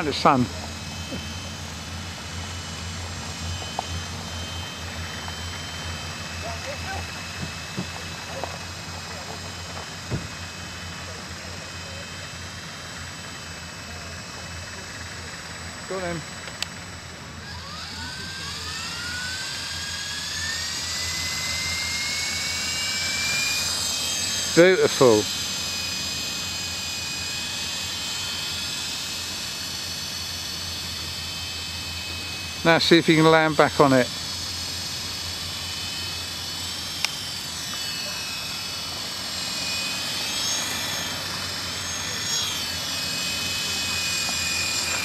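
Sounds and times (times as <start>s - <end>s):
model aircraft motor whining: 0.0s - 45.0s.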